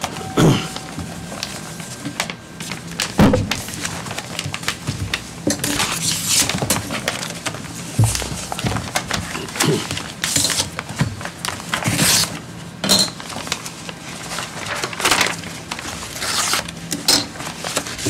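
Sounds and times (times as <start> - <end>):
paper rustling and crinkling: 0.8 - 12.5, 13.1 - 18.0.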